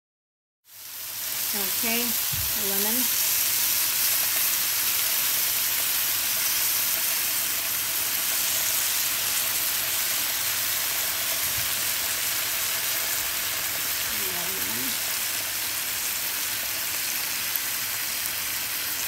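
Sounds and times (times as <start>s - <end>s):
shrimp sizzling in oil: 0.7s - 19.0s.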